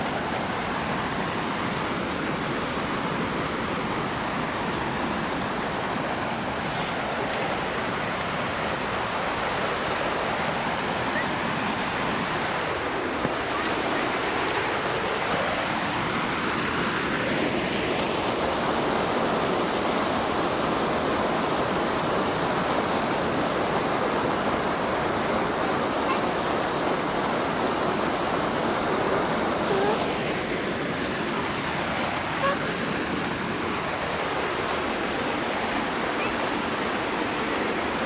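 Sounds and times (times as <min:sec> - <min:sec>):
heavy rain on plastic sheeting: 0:00.0 - 0:38.0.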